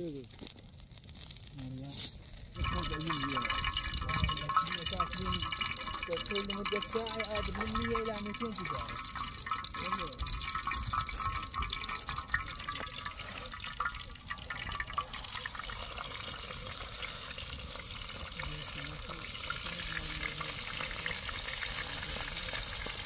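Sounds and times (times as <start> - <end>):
fat sizzling in a pan: 0.0 - 23.0.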